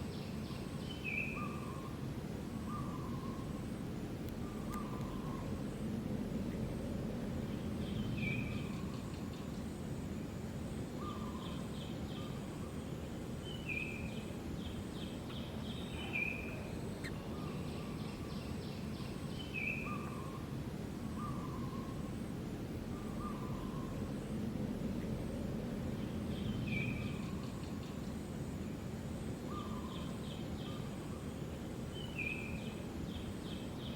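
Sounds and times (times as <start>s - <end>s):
outdoor background noise: 0.0s - 33.9s.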